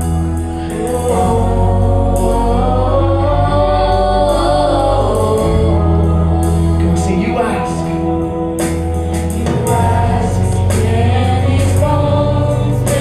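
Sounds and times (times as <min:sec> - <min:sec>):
gospel band playing: 0:00.0 - 0:13.0
wordless singing: 0:00.1 - 0:13.0.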